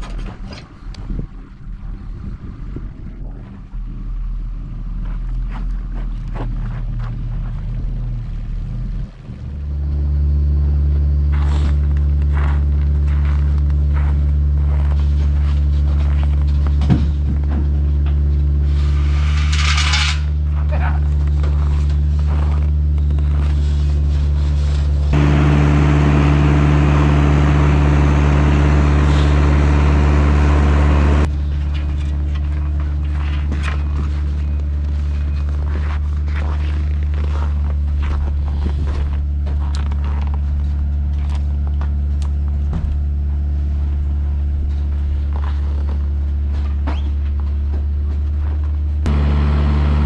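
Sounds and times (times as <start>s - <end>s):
diesel engine running: 0.8s - 19.1s, 20.4s - 50.0s.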